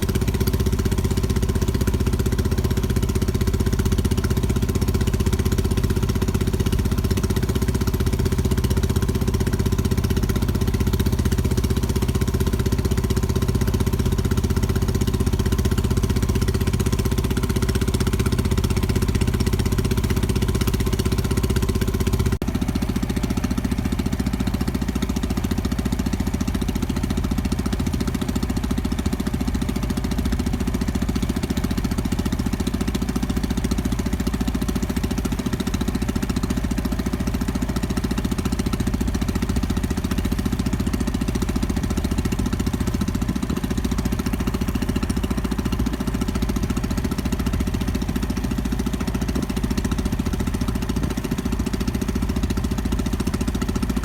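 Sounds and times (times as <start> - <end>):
boat engine chugging: 0.0 - 54.0.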